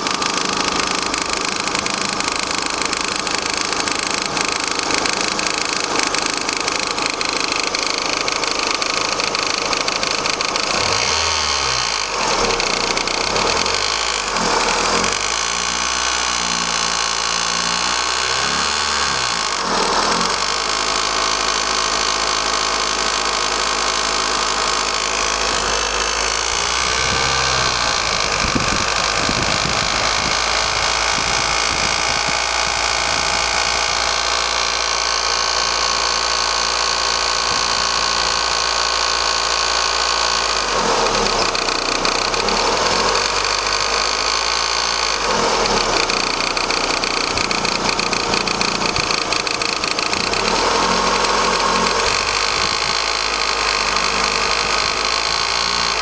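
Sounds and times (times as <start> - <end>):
car engine idling: 0.0 - 56.0
engine tapping noise: 0.0 - 56.0.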